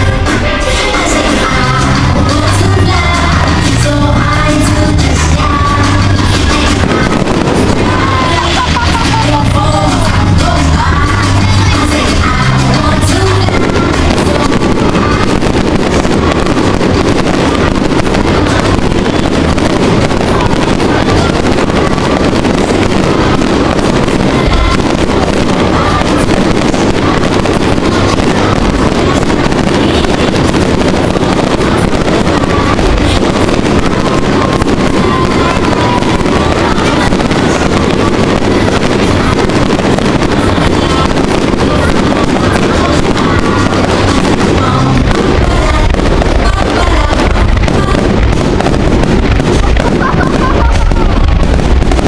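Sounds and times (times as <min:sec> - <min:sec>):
fireworks barrage: 0:00.0 - 0:52.0.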